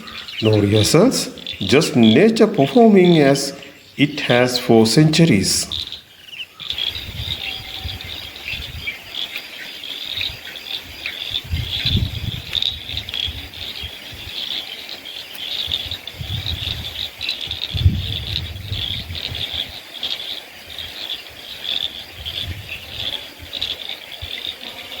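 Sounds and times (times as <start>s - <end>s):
frogs calling: 0.0s - 25.0s
insects chirping: 0.0s - 25.0s.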